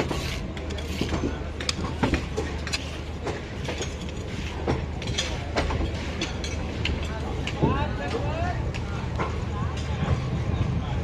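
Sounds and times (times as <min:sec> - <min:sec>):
wheels clacking over rail joints: 0:00.0 - 0:10.5
train low rumble: 0:00.0 - 0:11.0.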